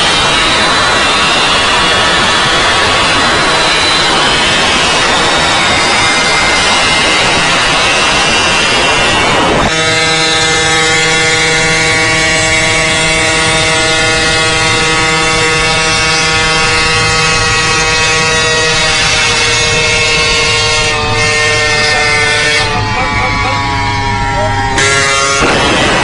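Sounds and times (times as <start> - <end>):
motorcycle engine droning: 0.0 - 26.0.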